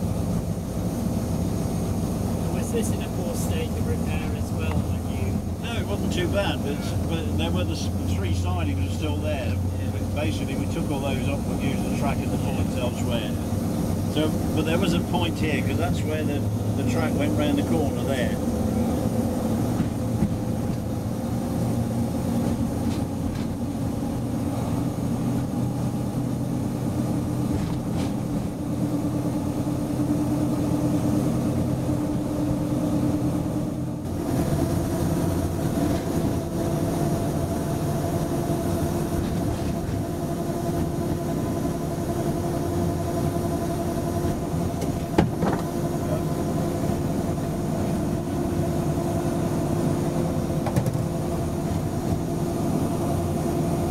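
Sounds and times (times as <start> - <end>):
diesel locomotive engine running: 0.0 - 53.9
train moving along track: 0.0 - 53.9.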